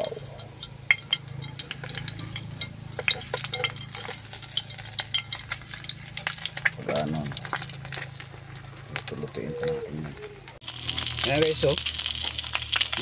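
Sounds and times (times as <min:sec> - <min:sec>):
fish frying in hot oil: 0:00.0 - 0:09.2, 0:10.6 - 0:13.0
low steady hum: 0:00.0 - 0:13.0
oil crackling and popping: 0:00.0 - 0:13.0.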